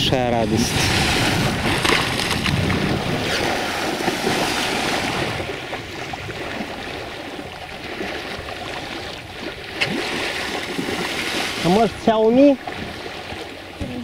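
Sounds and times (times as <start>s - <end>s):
wind buffeting microphone: 0.0s - 14.0s
sea water splashing along hull: 0.1s - 14.0s.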